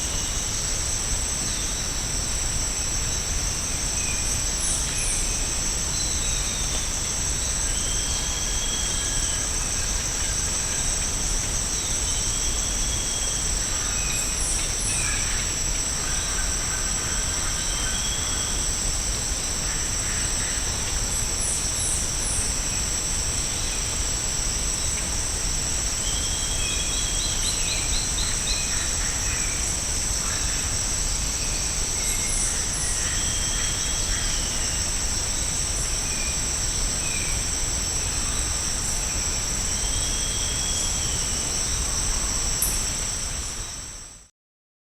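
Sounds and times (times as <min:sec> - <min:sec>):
insect chorus droning: 0:00.0 - 0:44.3.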